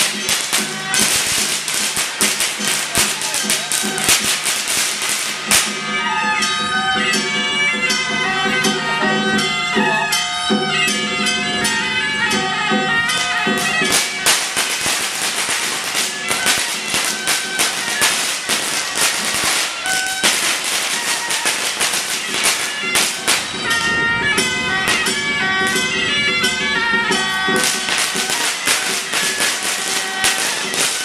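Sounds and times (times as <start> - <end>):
reedy wind melody: 0.0 - 31.0.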